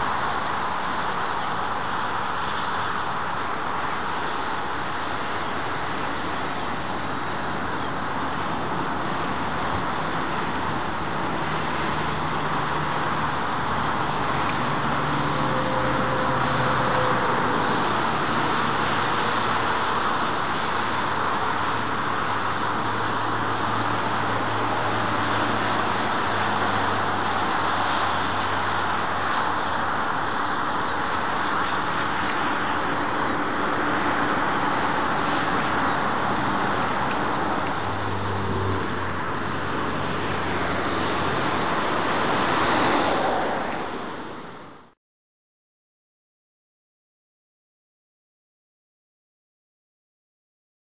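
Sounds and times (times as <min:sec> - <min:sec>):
jet engines rushing: 0:00.0 - 0:44.9.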